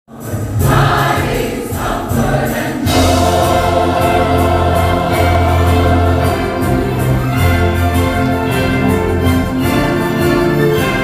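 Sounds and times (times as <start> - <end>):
church choir singing: 0.1 - 11.0.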